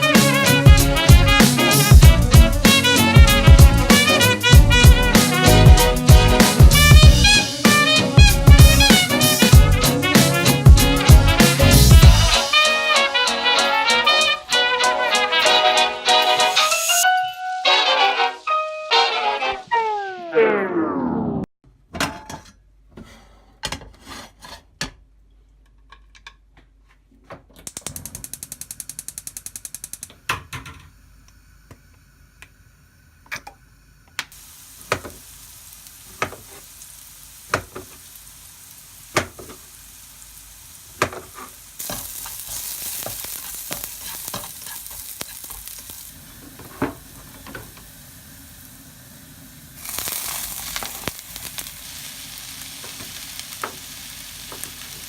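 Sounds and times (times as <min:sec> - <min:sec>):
food sizzling in a pan: 0:00.0 - 0:19.0, 0:27.8 - 0:55.0.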